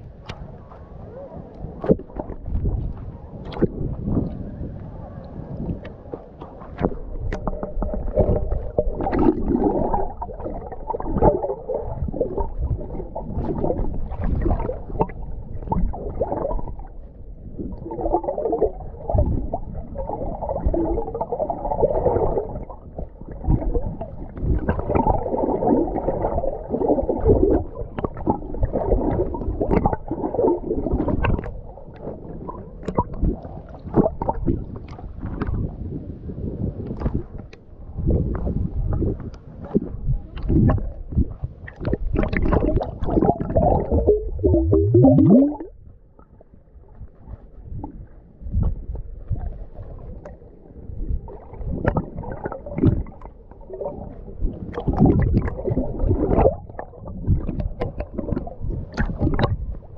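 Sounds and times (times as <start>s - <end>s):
muffled water sloshing and gurgling: 0.0s - 59.9s.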